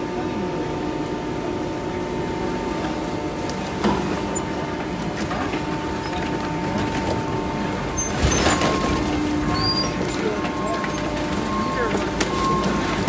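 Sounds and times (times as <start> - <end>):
hydraulic packer humming: 0.0 - 13.0.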